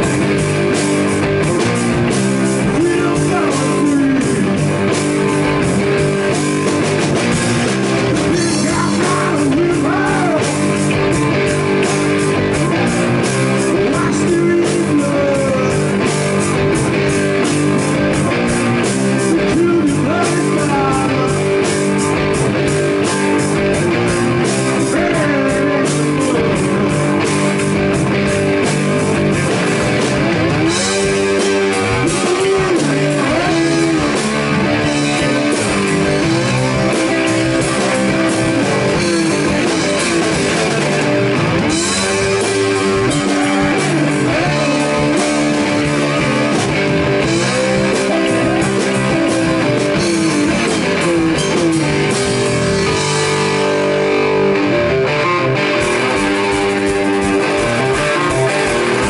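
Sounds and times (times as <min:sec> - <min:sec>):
blues rock band playing live: 0:00.0 - 0:59.0
lead guitar bending notes: 0:00.0 - 0:59.0.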